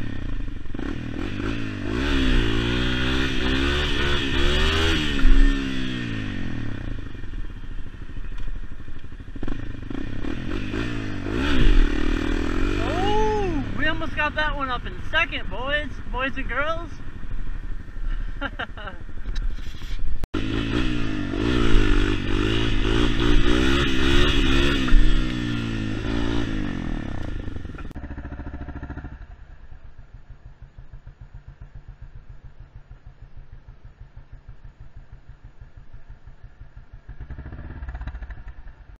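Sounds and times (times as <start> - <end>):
dirt bike engine idling: 0.0 - 39.0
motorcycle engine revving: 0.0 - 39.0.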